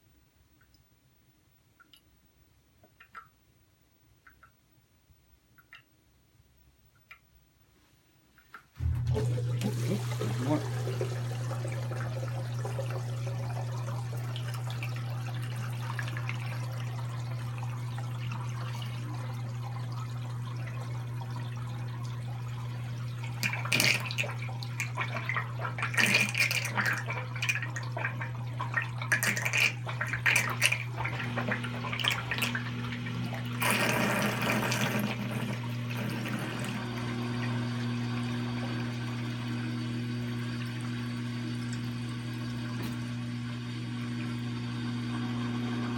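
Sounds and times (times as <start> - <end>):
water splashing into sink: 8.6 - 45.9
pump hum: 8.8 - 45.9
water draining from hose: 8.8 - 45.9.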